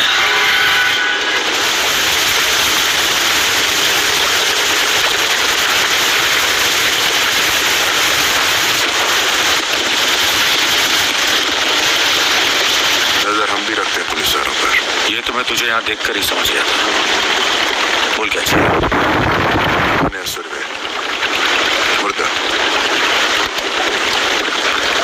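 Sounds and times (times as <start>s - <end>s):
sea water rushing: 0.0s - 25.0s.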